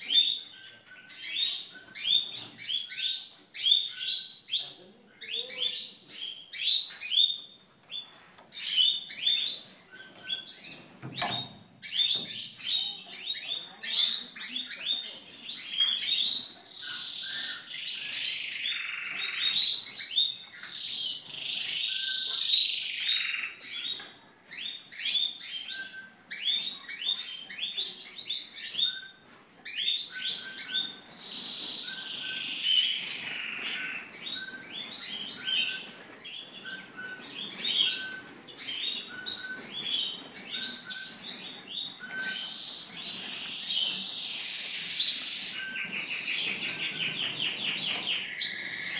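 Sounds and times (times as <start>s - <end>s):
finches chirping and twittering: 0.0s - 48.9s.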